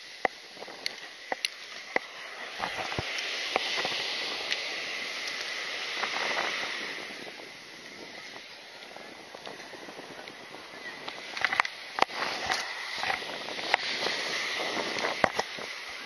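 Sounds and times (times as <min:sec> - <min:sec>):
fishing line hiss: 0:00.0 - 0:16.0
surf: 0:00.0 - 0:16.0
wind: 0:00.0 - 0:16.0.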